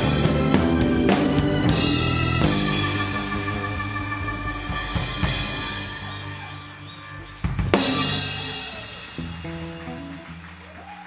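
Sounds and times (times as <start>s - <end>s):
held guitar and bass notes: 0.0s - 10.7s.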